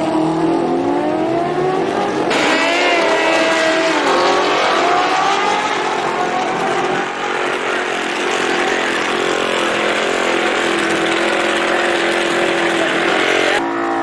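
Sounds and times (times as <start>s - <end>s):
drag racing engine revving: 0.0s - 13.7s.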